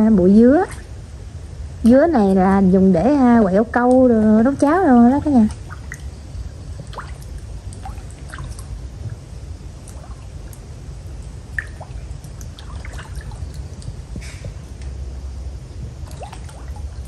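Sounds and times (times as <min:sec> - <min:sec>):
low steady rumble: 0:00.0 - 0:17.0
water drips and plops: 0:00.6 - 0:01.0, 0:01.8 - 0:15.0, 0:15.9 - 0:17.0.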